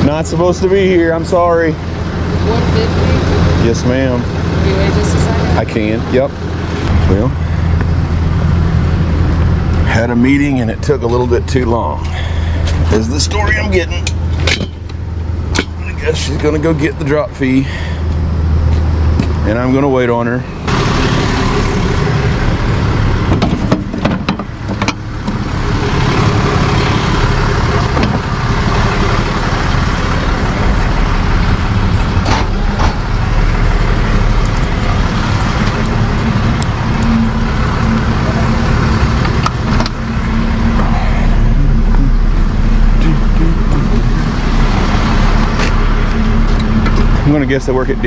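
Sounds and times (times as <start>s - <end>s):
truck engine idling: 0.0s - 48.0s.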